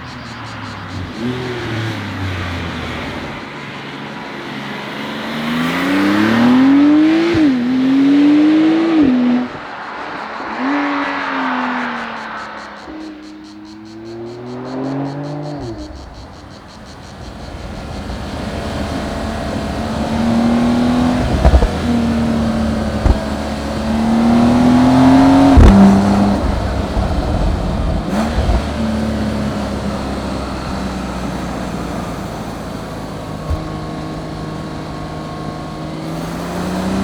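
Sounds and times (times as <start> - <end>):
car engine accelerating through gears: 0.0 - 37.0.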